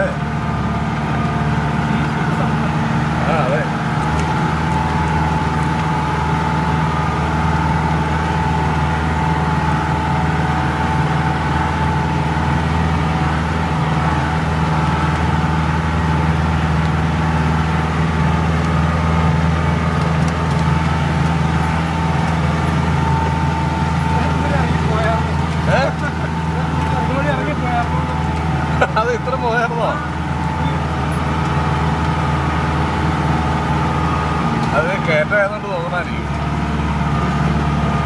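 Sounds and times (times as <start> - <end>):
jeep engine running under load: 0.0 - 38.0.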